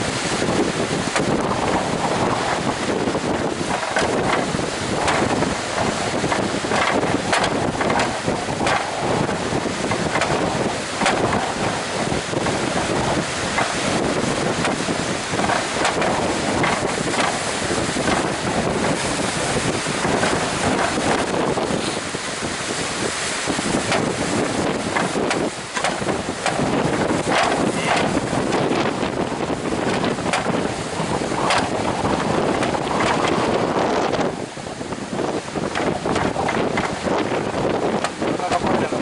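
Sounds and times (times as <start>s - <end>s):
breaking surf: 0.0s - 39.0s
wind blowing across microphone: 0.0s - 39.0s.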